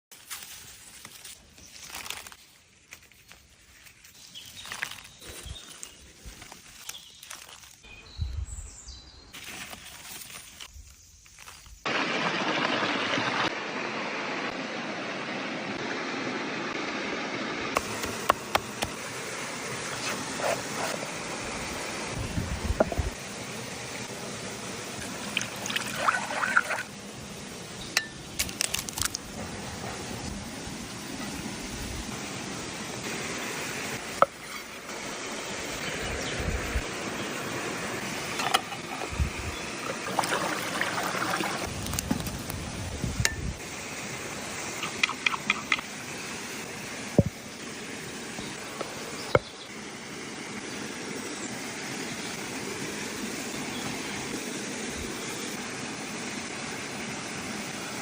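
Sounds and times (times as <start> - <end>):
steady hiss: 0.1 - 58.0.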